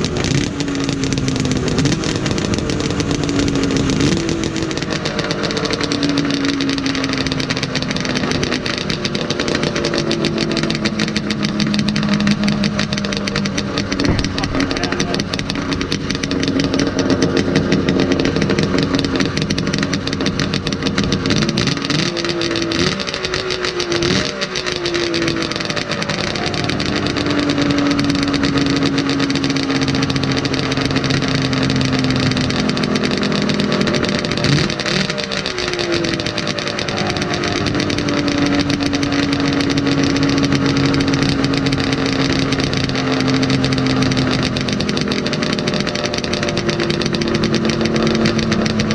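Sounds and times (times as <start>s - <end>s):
snowmobile engine revving: 0.0s - 48.9s.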